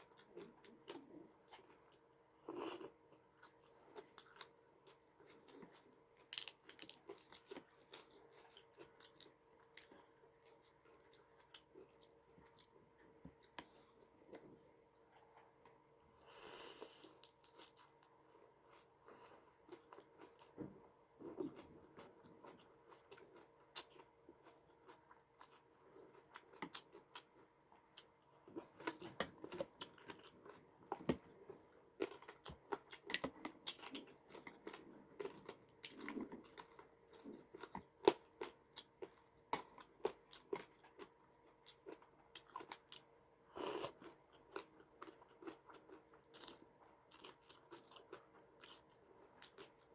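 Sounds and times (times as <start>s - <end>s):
person chewing crunchy food: 0.0s - 14.6s, 16.2s - 49.9s
faint steady hum: 0.0s - 49.9s.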